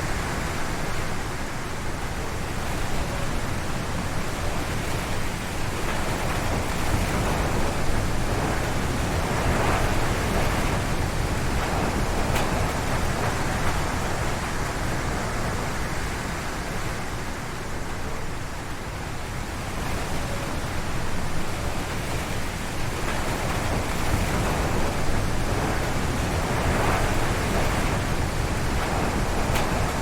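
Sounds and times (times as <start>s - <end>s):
wind gusting through trees: 0.0s - 30.0s.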